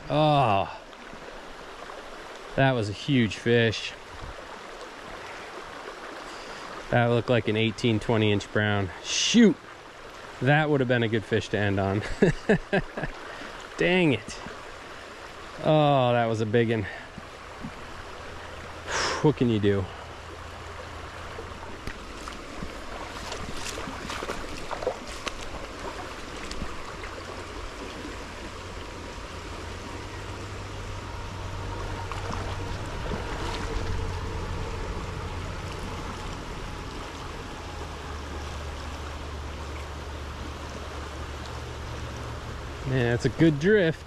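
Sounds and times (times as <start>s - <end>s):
stream water running: 0.0s - 44.0s.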